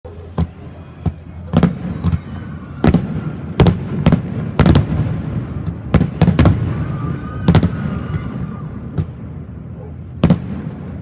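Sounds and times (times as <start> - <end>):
fireworks booming: 0.1 - 11.0.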